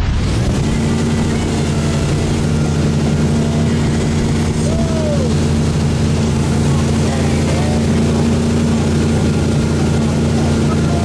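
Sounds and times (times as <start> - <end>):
boat engine running: 0.0 - 11.0
water noise: 0.0 - 11.0.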